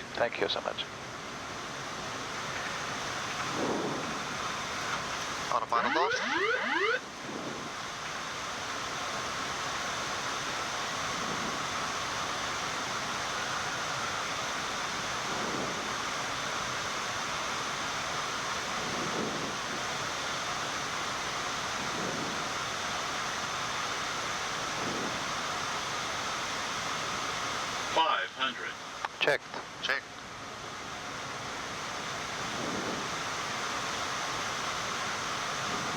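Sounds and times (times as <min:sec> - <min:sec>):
air-conditioning hiss: 0:00.0 - 0:35.9
airflow over airframe: 0:00.0 - 0:35.9.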